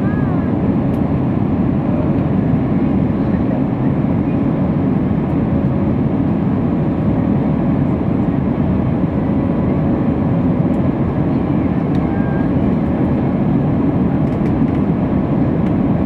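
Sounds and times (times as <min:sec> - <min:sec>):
jet engine roar in cabin: 0:00.0 - 0:16.0.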